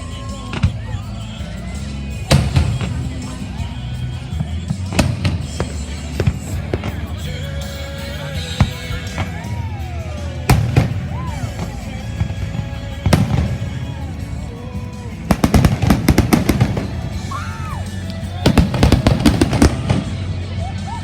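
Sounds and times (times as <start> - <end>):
rapid crackling firework bangs: 2.2 - 9.8, 10.4 - 20.3
firework bangs: 2.2 - 20.4.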